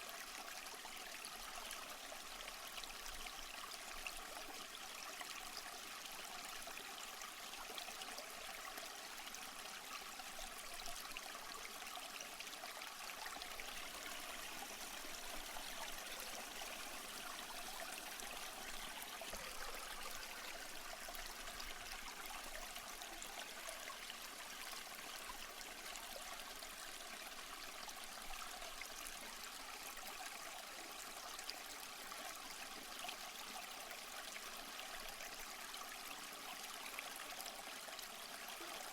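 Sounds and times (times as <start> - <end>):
pond waterfall trickling: 0.0 - 38.9.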